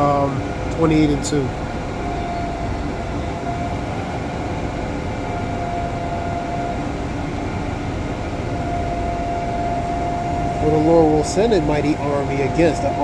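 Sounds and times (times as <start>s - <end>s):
faint steady hum: 0.0s - 13.0s
machine rumble and hiss: 0.0s - 13.0s.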